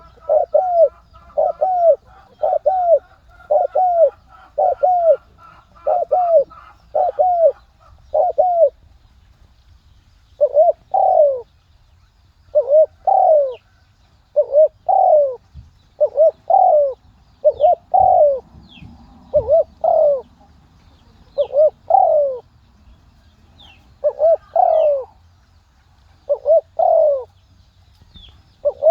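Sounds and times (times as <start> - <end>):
dove cooing: 0.0 - 8.9, 10.4 - 11.6, 12.5 - 22.6, 23.6 - 25.2, 26.2 - 27.4, 28.6 - 28.9
small birds chirping: 0.0 - 28.9.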